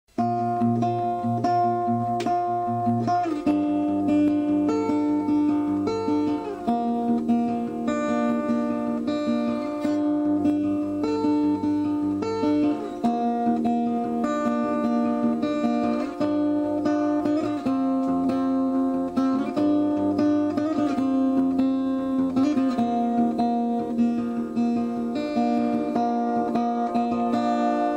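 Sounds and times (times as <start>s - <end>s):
acoustic guitar playing: 0.1s - 27.9s.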